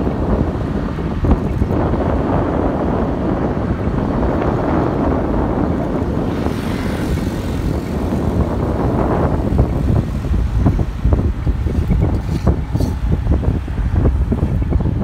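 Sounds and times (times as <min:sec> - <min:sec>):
motorbike running: 0:00.0 - 0:15.0
road noise: 0:00.0 - 0:15.0
wind buffeting microphone: 0:00.0 - 0:15.0.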